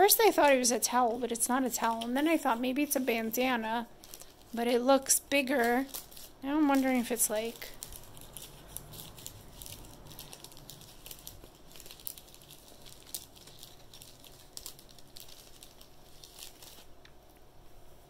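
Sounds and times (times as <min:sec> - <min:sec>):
cloth rustling: 0:00.0 - 0:18.0.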